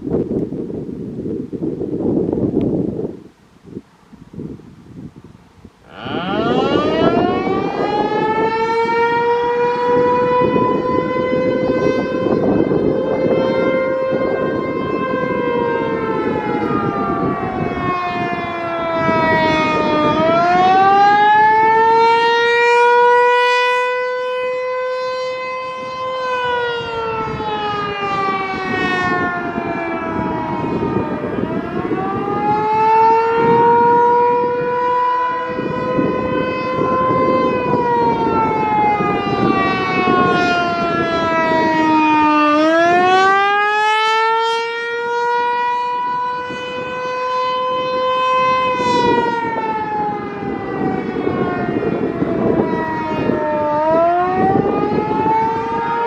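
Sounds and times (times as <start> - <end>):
warning siren wailing: 5.8 - 56.0.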